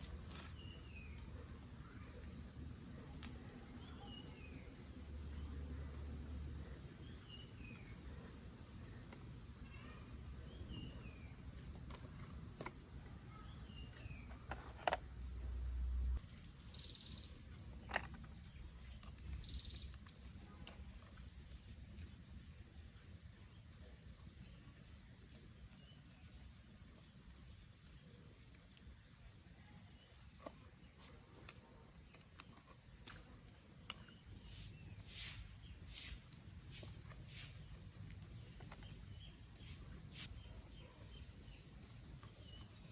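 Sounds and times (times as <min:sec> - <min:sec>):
insect drone: 0:00.0 - 0:42.9.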